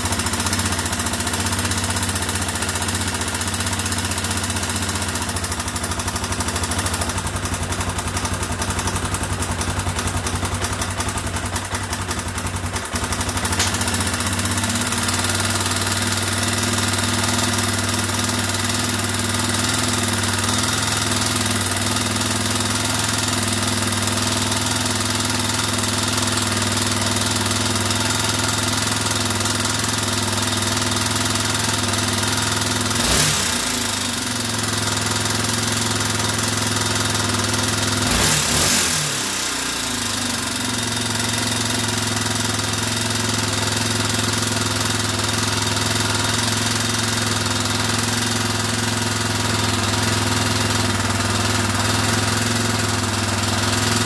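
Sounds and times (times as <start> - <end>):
engine idling with clatter: 0.0 - 54.0.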